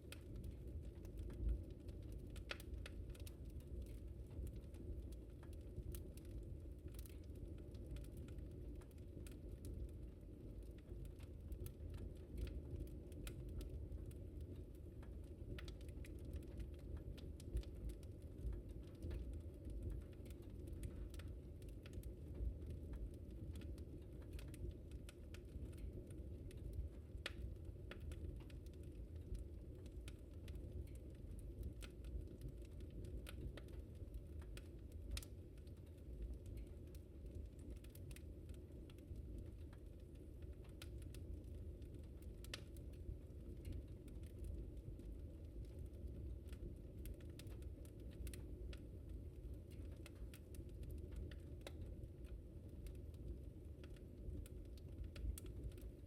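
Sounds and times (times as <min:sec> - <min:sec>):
fire crackling in a fireplace: 0:00.0 - 0:56.0.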